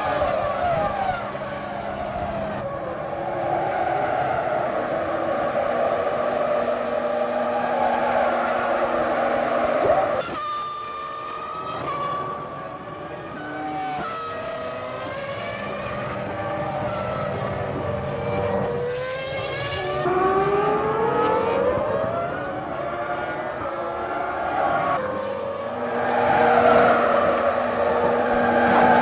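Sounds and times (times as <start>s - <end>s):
racing car engines at high revs: 0.0s - 29.0s.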